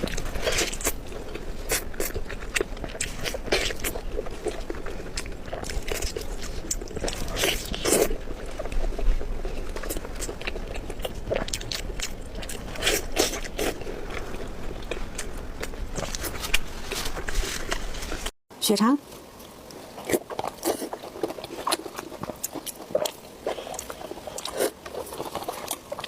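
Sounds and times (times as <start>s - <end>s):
person chewing food: 0.0s - 18.3s, 19.4s - 26.0s.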